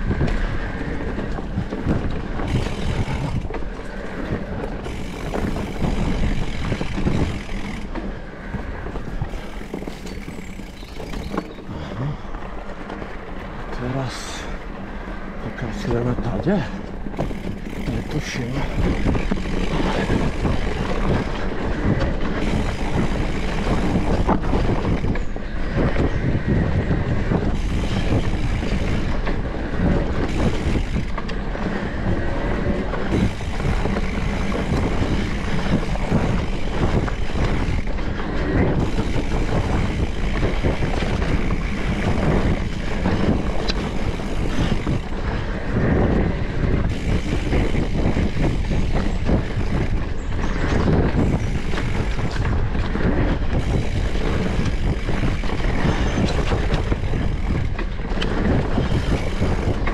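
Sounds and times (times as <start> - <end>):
bike frame and chain rattling: 0.0 - 59.9
bike tyre rumble on dirt: 0.0 - 59.9
wind buffeting microphone: 0.0 - 59.9.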